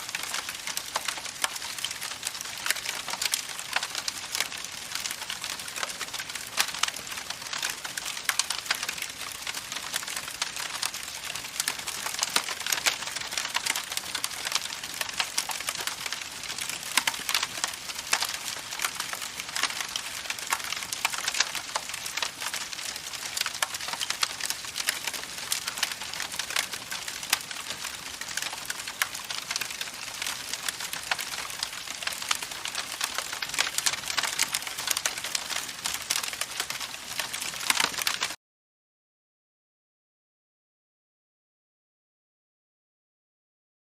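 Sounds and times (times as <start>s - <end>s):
campfire crackling and popping: 0.0s - 38.4s.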